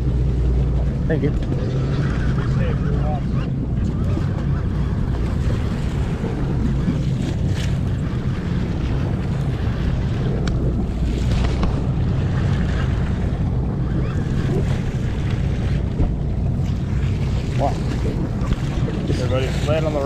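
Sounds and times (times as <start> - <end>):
boat engine droning: 0.0 - 20.0
water washing around hull: 0.0 - 20.0
wind on microphone: 0.0 - 20.0.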